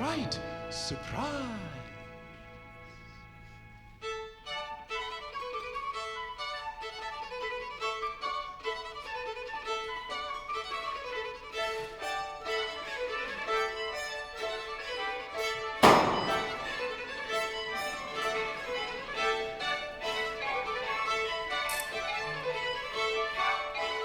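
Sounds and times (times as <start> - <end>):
orchestral music: 0.0 - 24.0.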